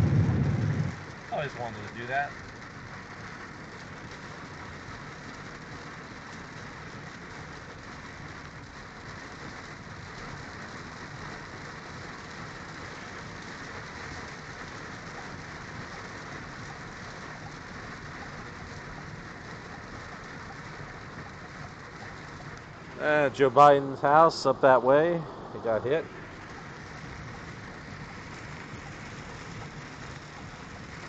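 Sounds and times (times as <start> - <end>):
heavy rain on car roof: 0.0 - 31.0
tyres hissing on wet road: 0.0 - 31.0.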